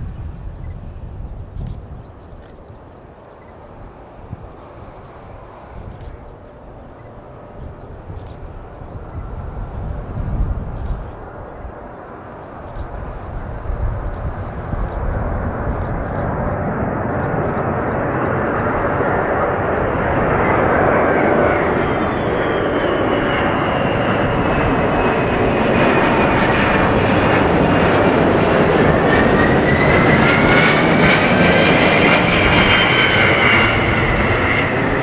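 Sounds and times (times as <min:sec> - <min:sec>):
jet engines passing overhead: 0:00.0 - 0:35.0.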